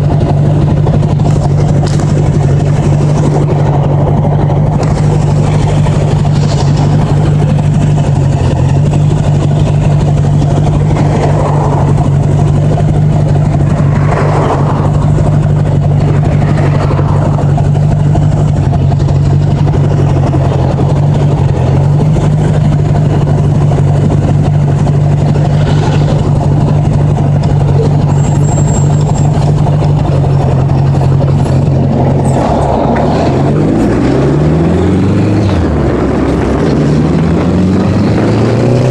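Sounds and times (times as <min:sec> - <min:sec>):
motorcycle engine cruising: 0:00.0 - 0:38.9
road noise: 0:00.0 - 0:38.9
wind noise: 0:00.0 - 0:38.9.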